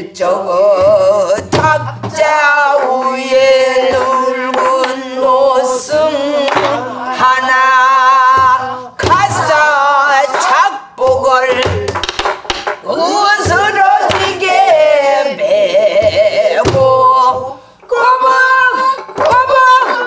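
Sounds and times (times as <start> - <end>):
woman singing with vibrato: 0.0 - 20.0.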